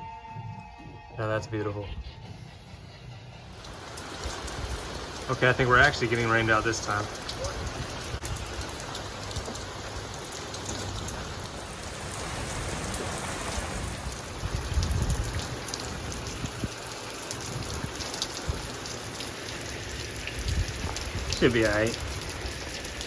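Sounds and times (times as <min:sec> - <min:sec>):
raindrops ticking close by: 0:03.5 - 0:23.0
steady rain falling: 0:03.5 - 0:23.0.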